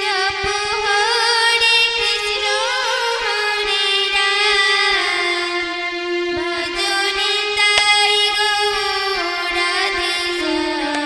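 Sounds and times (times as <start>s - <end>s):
girl singing devotional song: 0.0s - 11.0s.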